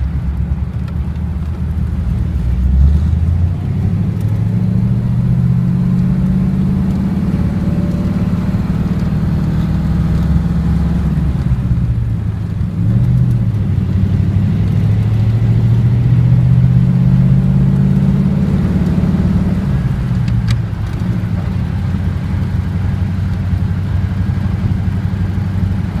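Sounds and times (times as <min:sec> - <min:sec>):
old car engine running: 0:00.0 - 0:17.0, 0:17.6 - 0:26.0.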